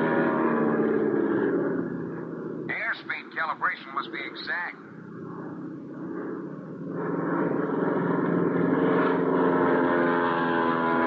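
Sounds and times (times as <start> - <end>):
aircraft engine hum: 0.0 - 11.0.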